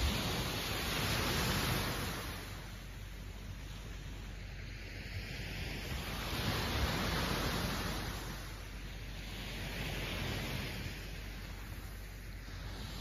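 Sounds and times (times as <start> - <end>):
small waves washing up a shore: 0.0 - 13.0.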